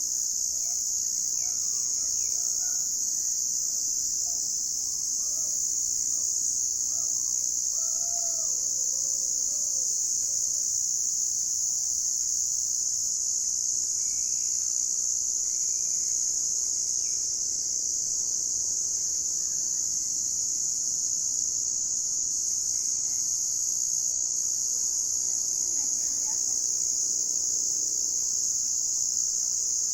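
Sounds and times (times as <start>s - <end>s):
crickets trilling: 0.0s - 29.9s.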